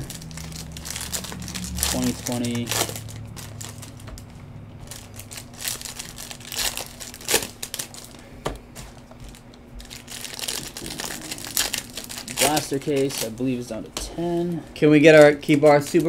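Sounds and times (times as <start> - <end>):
foil wrappers crinkling: 0.0 - 16.0.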